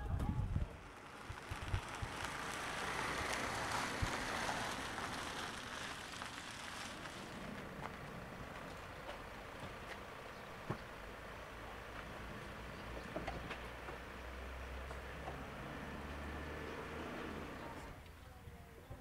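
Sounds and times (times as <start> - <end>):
van driving past: 0.4 - 18.0.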